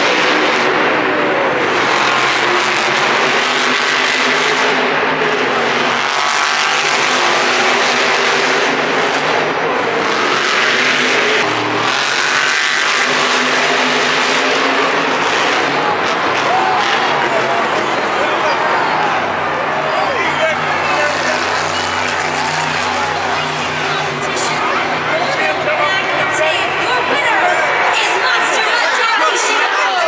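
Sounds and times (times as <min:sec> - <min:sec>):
monster truck engines revving: 0:00.0 - 0:30.0.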